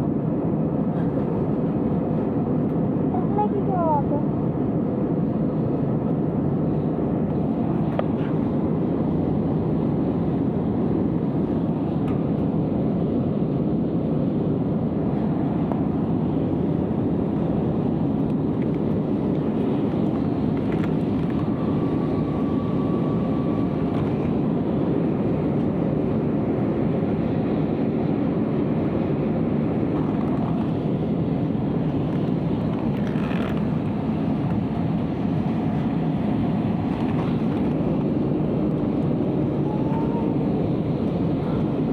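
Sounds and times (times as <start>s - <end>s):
jet airliner engines and airflow: 0.0s - 41.9s.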